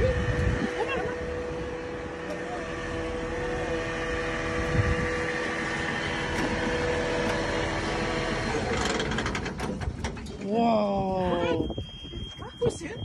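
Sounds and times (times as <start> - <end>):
truck engine idling: 0.0 - 11.1.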